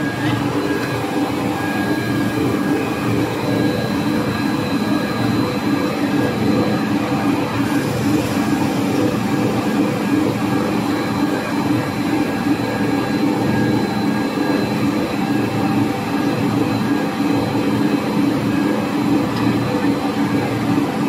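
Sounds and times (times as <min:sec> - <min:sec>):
machine drone with high whine: 0:00.0 - 0:21.0.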